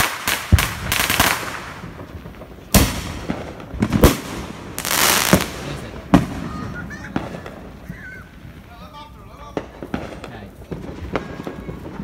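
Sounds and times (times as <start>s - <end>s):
fireworks banging: 0.0s - 12.0s
fireworks hissing: 0.0s - 12.0s.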